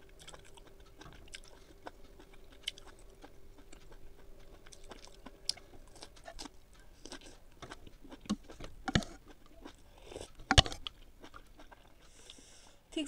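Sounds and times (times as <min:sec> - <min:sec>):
chewing broccoli: 0:00.0 - 0:12.7.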